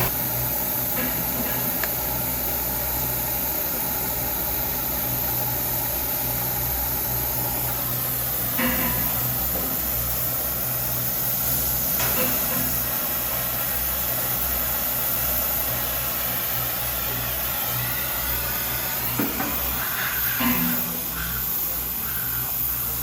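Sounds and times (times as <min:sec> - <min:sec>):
constant hiss: 0:00.0 - 0:23.0
low machine hum: 0:00.0 - 0:23.0.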